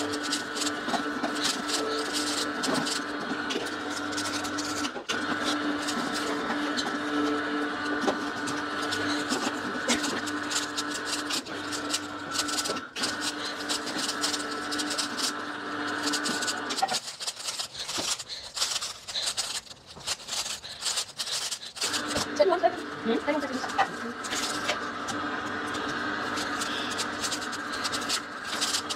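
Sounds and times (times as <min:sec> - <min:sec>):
greens crackling in juicer: 0:00.0 - 0:28.9
juicer motor humming: 0:00.0 - 0:28.9.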